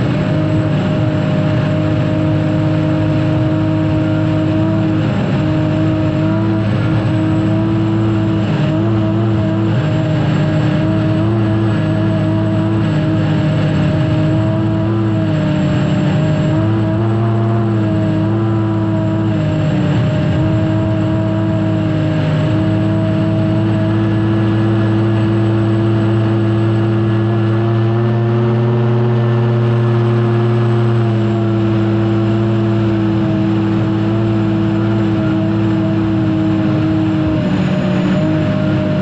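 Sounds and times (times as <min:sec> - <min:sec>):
turbine engine whine: 0:00.0 - 0:39.0.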